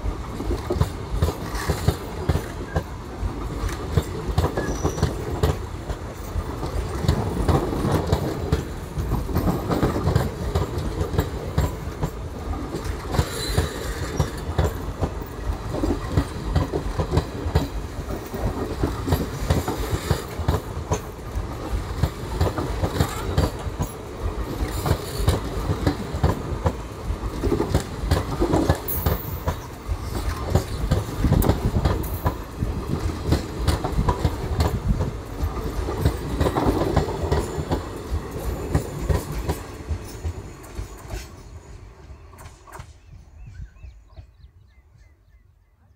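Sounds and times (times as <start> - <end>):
train wheels clattering: 0.0 - 43.1.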